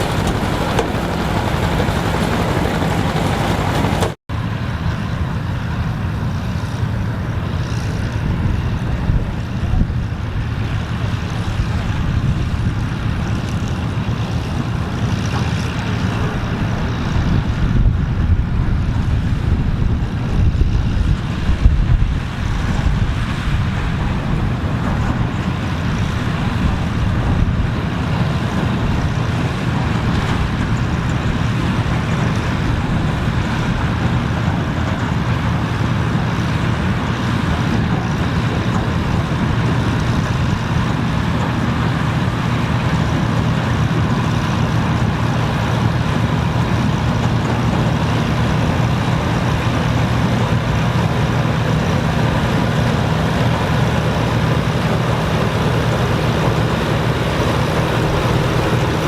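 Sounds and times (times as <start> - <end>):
farm machinery engine running: 0.0 - 59.0.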